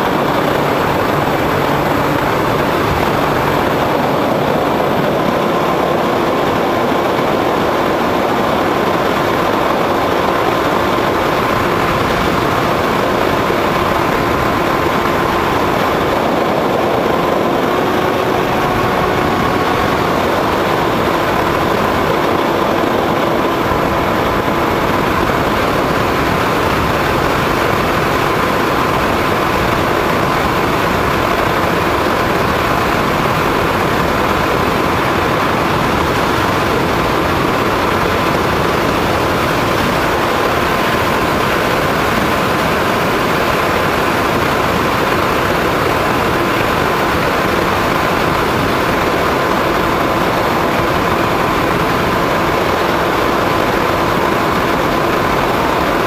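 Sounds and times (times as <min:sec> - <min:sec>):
model airplane motor whine: 0:00.0 - 0:56.0
wind rush: 0:00.0 - 0:56.0.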